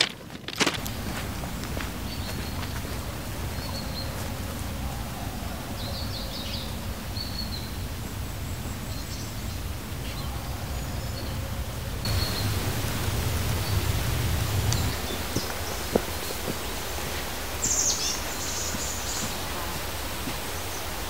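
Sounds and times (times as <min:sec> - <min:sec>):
low outdoor rumble: 0:00.2 - 0:17.6
small birds chirping: 0:00.7 - 0:21.0.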